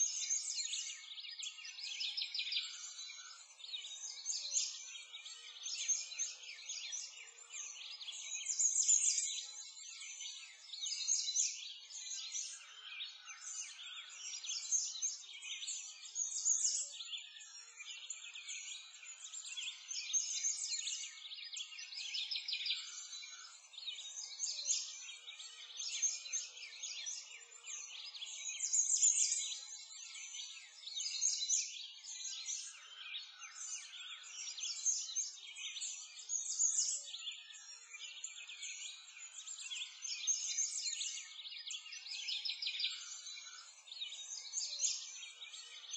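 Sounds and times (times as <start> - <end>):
songbirds chirping and twittering: 0.0 - 45.9.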